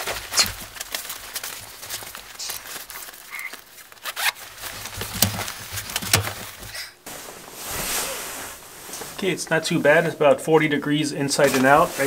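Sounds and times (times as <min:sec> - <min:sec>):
nylon clothing rustling: 0:00.0 - 0:10.0.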